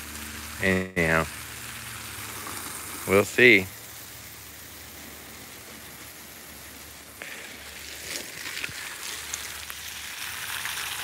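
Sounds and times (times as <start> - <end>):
hose water spraying on plants: 0.0 - 11.0.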